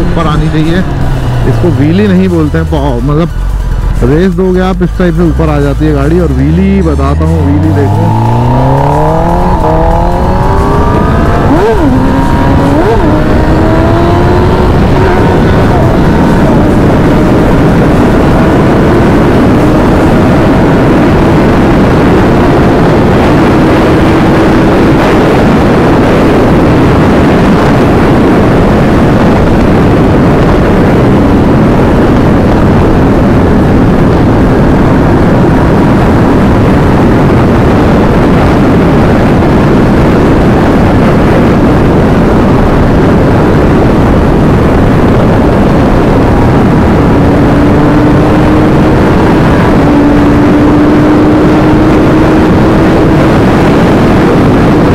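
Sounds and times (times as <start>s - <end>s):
motorcycle engine at high speed: 0.0s - 54.9s
wind rush over microphone: 0.0s - 54.9s.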